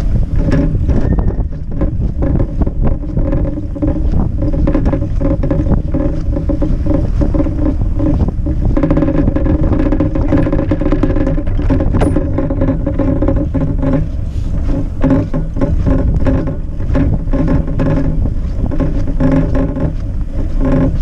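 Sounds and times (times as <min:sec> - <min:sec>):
bike humming over snow: 0:00.0 - 0:21.0
bike knocks and rattles: 0:00.0 - 0:21.0.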